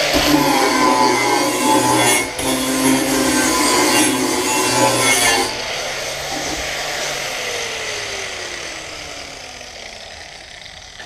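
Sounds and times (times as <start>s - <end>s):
angle grinder grinding steel: 0.0s - 11.0s
grinder disc spinning down: 0.0s - 11.0s.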